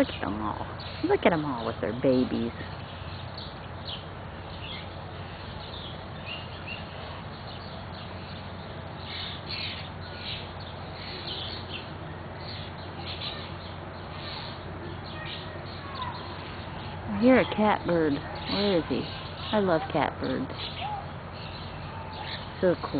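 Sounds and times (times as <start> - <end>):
starlings calling harshly: 0.0 - 22.9.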